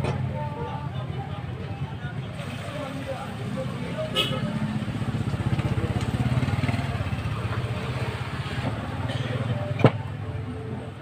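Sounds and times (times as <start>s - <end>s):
vehicle engine running: 0.2s - 9.7s.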